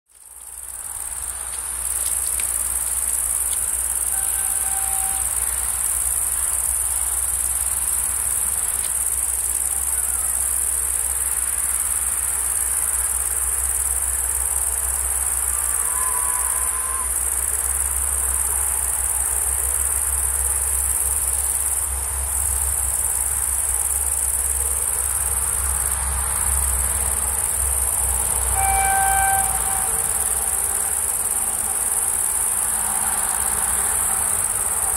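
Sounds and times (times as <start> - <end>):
insects chirring: 0.1 - 34.9.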